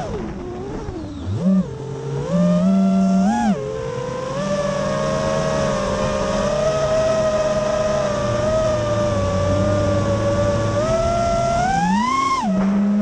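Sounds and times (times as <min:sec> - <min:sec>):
drone motors and propellers whining: 0:00.0 - 0:13.0.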